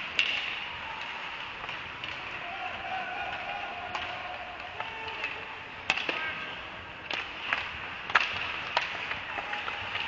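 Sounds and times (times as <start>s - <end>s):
hockey sticks striking puck: 0.0s - 10.0s
hollow rink ambience: 0.0s - 10.0s.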